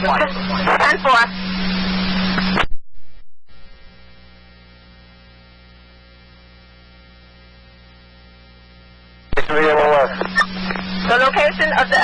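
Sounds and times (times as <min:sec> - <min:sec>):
radio transmission hiss: 0:00.0 - 0:07.6, 0:08.2 - 0:12.0
low electrical hum: 0:00.0 - 0:12.0.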